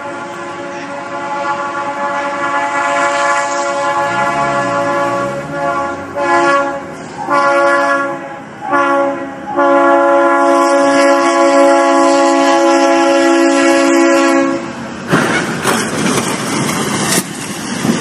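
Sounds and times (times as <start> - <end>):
train horn blasts: 0.0 - 14.8.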